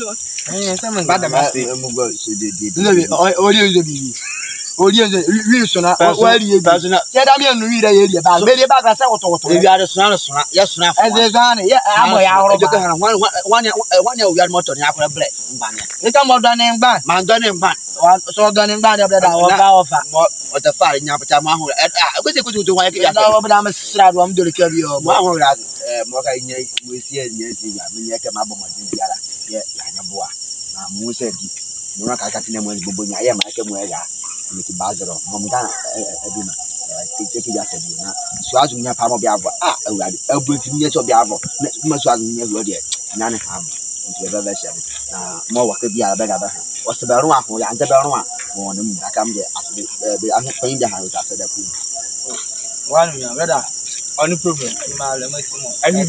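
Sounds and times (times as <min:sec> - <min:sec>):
crickets chirping: 0:00.0 - 0:56.0
people talking: 0:00.0 - 0:56.0.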